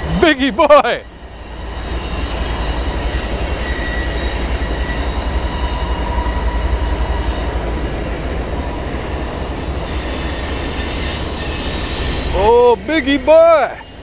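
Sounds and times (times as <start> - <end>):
freight train rumbling past: 0.0 - 14.0
high wheel squeal: 0.0 - 14.0.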